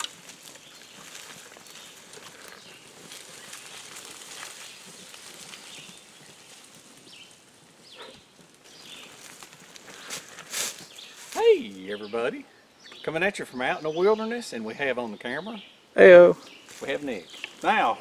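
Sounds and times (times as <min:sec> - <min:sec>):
leaves and brush rustling: 0:00.0 - 0:12.6, 0:14.0 - 0:18.0.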